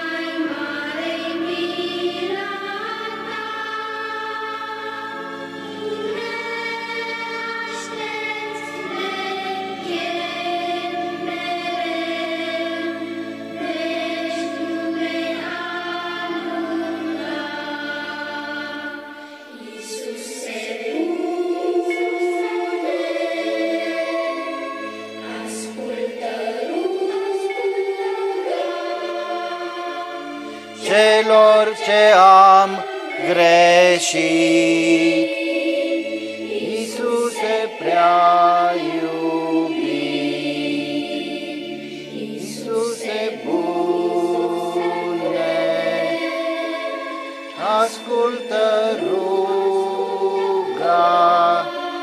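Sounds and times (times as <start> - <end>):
choir singing a hymn: 0.0 - 52.0.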